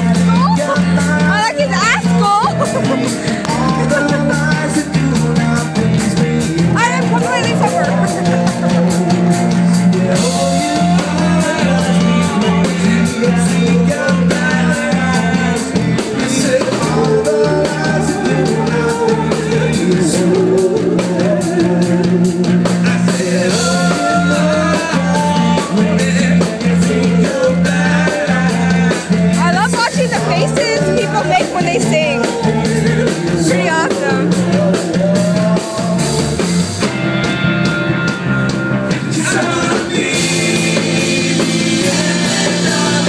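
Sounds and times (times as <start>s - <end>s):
bass guitar: 0.0s - 43.0s
electric guitar: 0.0s - 43.0s
lead singer: 0.0s - 43.0s
steady drum beat: 0.0s - 43.0s.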